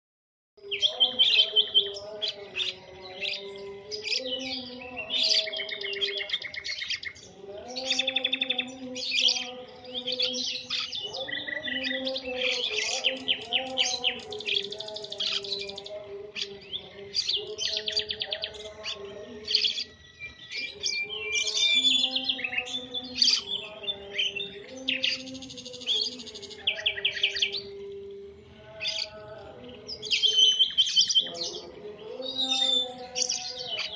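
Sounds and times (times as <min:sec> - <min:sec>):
songbird chirping and twittering: 0:00.6 - 0:33.9.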